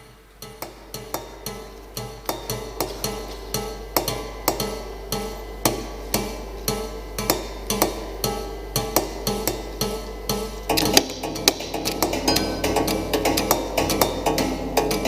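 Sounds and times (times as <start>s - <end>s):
piano strings plucked and struck: 0.5s - 15.0s.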